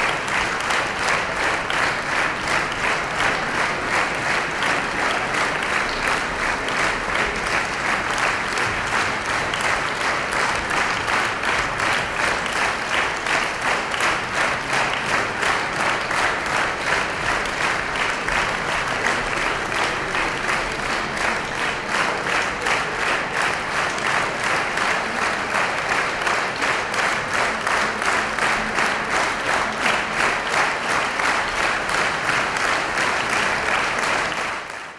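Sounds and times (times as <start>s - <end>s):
audience applauding: 0.0s - 34.9s.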